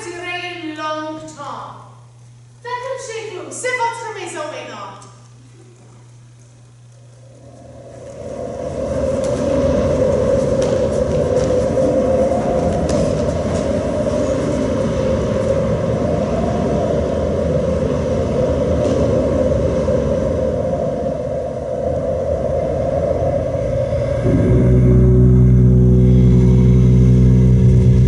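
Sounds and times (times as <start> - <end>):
loud rumbling: 5.2 - 28.0
low pitched drone: 5.2 - 28.0.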